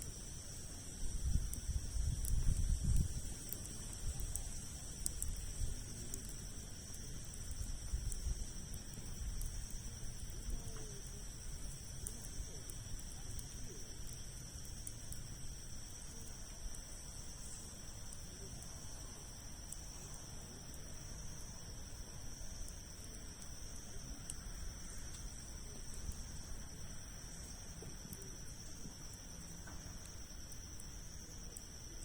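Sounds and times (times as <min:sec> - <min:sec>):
campfire crackling: 0:00.0 - 0:32.0
insects droning: 0:00.0 - 0:32.0.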